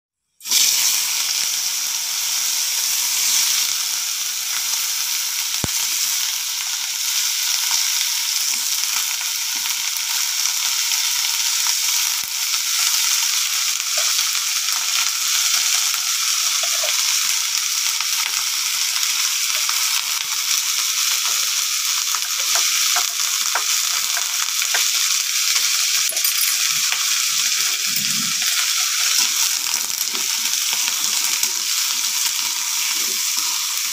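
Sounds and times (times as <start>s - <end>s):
crabs sizzling in a wok: 0.2s - 33.9s.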